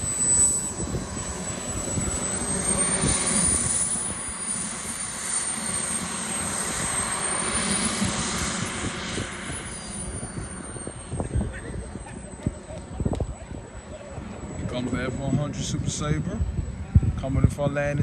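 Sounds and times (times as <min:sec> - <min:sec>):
model jet turbine whine: 0:00.0 - 0:18.0.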